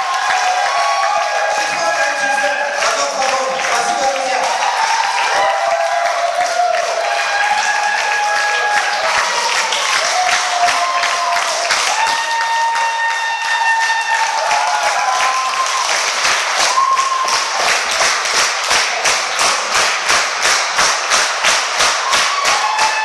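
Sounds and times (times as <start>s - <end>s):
crowd clapping in unison: 0.0s - 23.0s.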